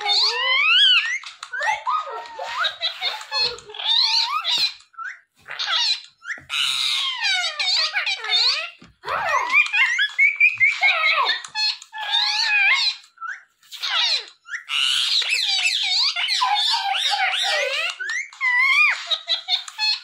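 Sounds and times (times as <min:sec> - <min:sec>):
parakeet chattering and squawking: 0:00.0 - 0:20.0.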